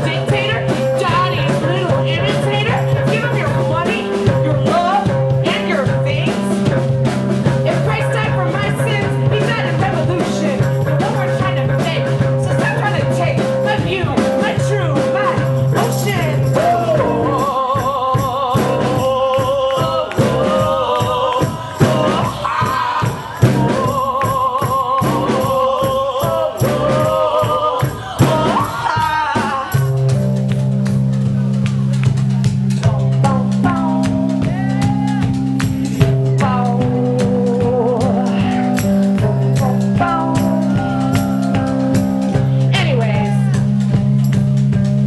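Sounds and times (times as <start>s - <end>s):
bass line: 0.0s - 45.0s
drum kit hits: 0.0s - 45.0s.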